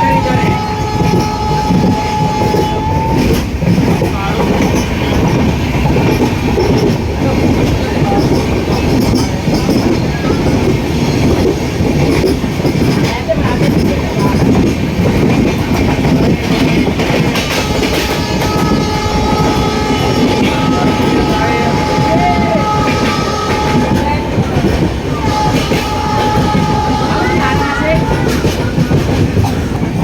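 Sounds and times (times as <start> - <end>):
train rumble: 0.0 - 30.0
wheels clacking over rail joints: 0.0 - 30.0.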